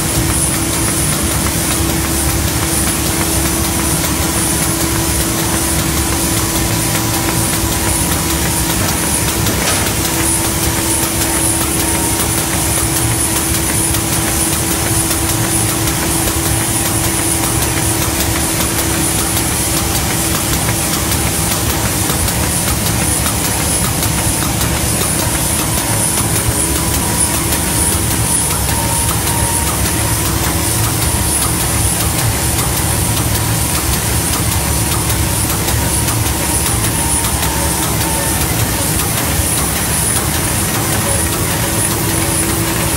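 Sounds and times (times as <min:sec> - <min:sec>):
machine running with clatter: 0:00.0 - 0:42.9.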